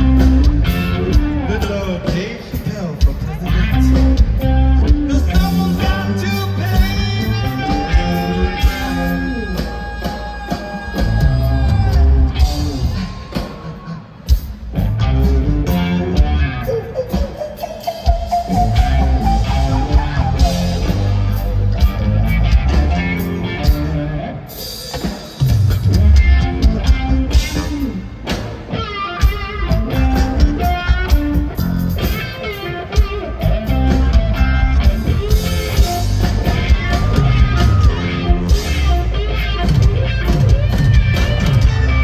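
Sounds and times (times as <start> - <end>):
electric bass: 0.0 - 2.2, 3.0 - 10.2, 11.0 - 13.2, 14.6 - 16.8, 18.5 - 24.5, 25.4 - 28.3, 29.5 - 42.0
drum kit: 0.0 - 42.0
electric guitar: 0.0 - 42.0.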